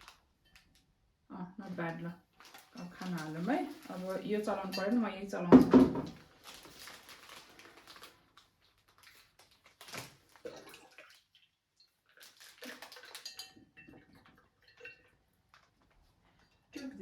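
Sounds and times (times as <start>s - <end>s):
water sloshing in vase: 1.7s - 17.0s.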